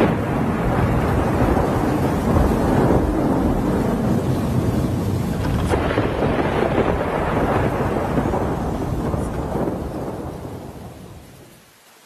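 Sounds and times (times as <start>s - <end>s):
wind and rain rumble: 0.0s - 12.0s.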